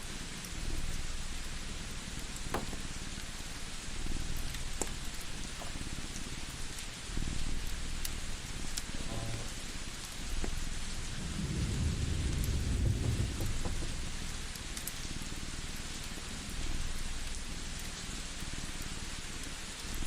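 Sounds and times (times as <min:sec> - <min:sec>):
rain-like hiss: 0:00.0 - 0:20.0
wood fire crackling: 0:00.0 - 0:20.0.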